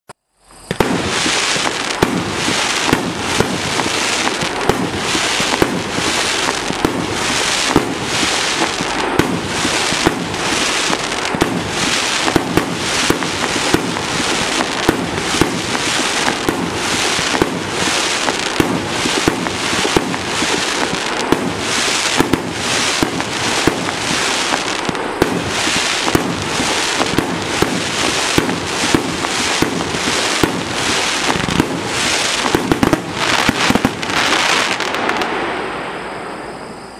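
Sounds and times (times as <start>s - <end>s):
firework hiss: 0.2s - 36.9s.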